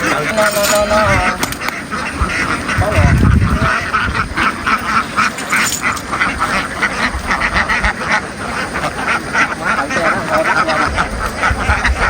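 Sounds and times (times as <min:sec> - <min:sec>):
flock of ducks quacking: 0:00.0 - 0:12.0.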